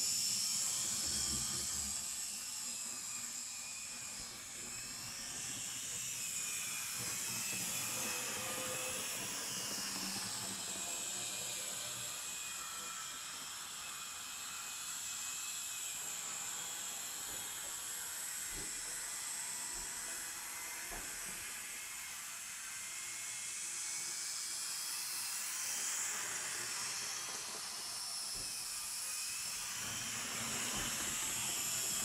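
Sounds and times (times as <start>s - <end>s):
model train motor whine: 0.0s - 32.0s.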